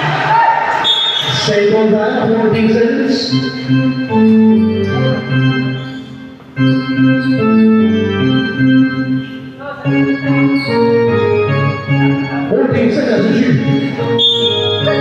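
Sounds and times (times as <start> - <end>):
electronic organ chords: 1.6 - 15.0.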